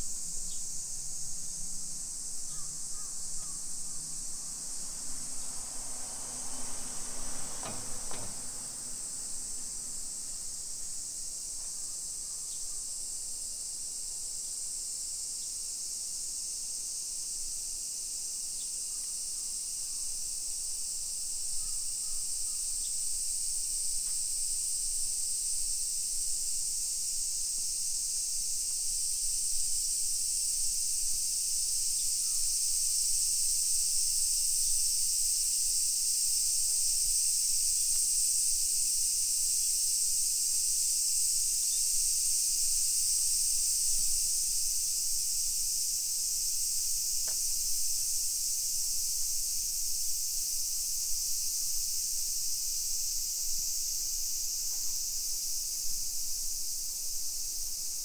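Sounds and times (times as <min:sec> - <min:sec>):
cicadas buzzing in chorus: 0:00.0 - 0:58.0.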